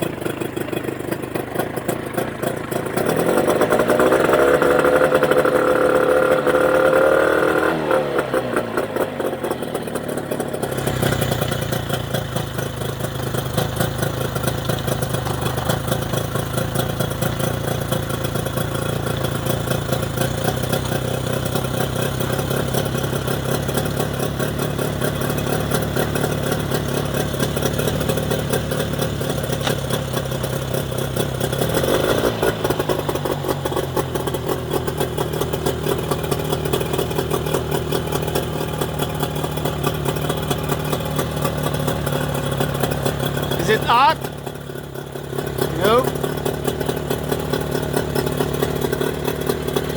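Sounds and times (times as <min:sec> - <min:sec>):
outboard motor idling and revving: 0:00.0 - 0:49.9.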